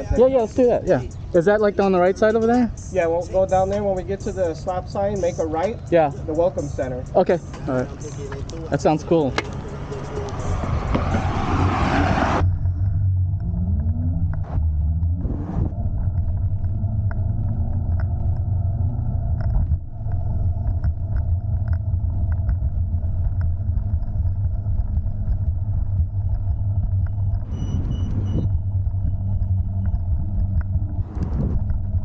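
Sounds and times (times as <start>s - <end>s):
wind and road rumble: 0.0s - 32.0s.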